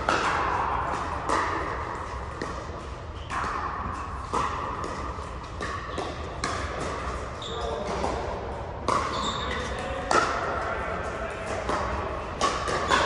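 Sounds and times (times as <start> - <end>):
ball bouncing: 0.0 - 10.6, 11.5 - 13.0.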